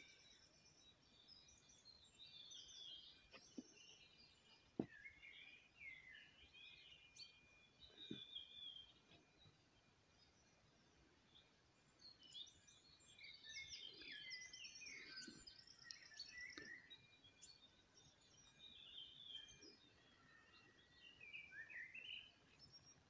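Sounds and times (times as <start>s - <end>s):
faint songbird chirps and trills: 0.0s - 23.0s.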